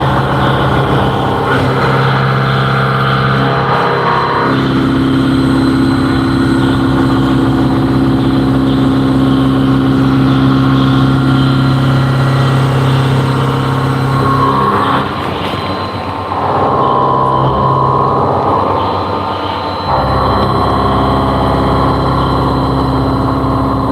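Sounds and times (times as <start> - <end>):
higher machine tone: 0.0 - 23.9
machine hum: 0.0 - 23.9.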